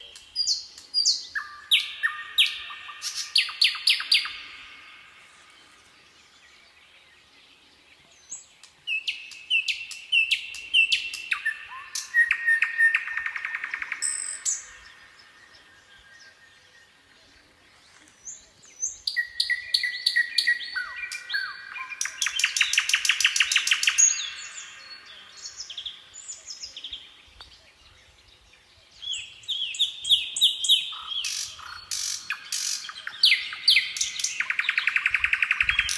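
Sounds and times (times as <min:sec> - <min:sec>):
nightingale singing: 0:00.0 - 0:35.9.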